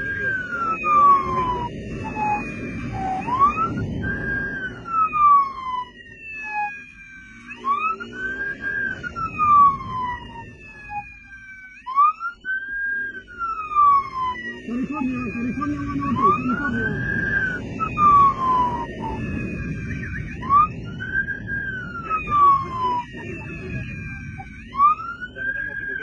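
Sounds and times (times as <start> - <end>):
motorcycle engine moving: 0.0 - 26.0
motorcycle siren wailing: 0.0 - 26.0.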